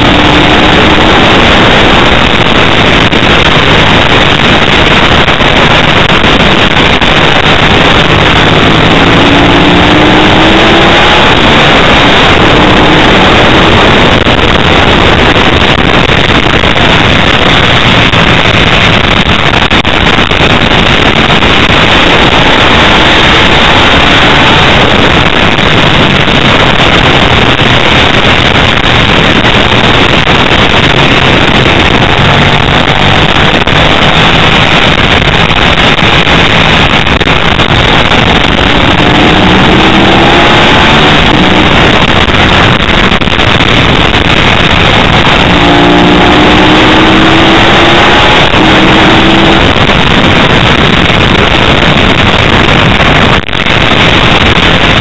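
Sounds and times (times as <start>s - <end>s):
motorcycle engine roar: 0.0s - 55.0s
wind rushing over microphone: 0.0s - 55.0s.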